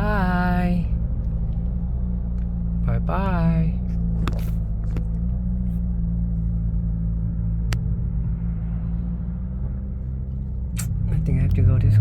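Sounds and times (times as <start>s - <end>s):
car cabin engine and road rumble: 0.0s - 12.0s.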